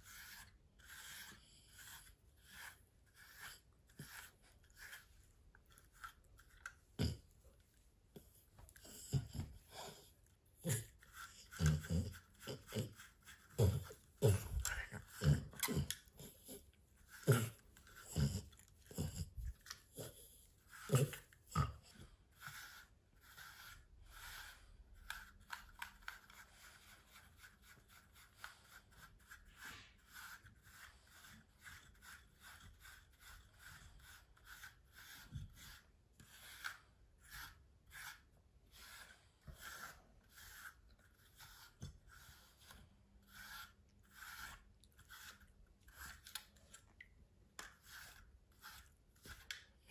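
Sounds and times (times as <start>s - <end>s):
brush strokes on dog fur: 0.0s - 49.9s.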